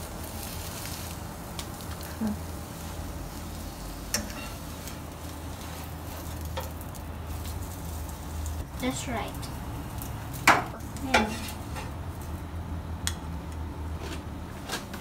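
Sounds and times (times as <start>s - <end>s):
egg sizzling in a frying pan: 0.0s - 12.6s
steady low hum: 0.0s - 15.0s.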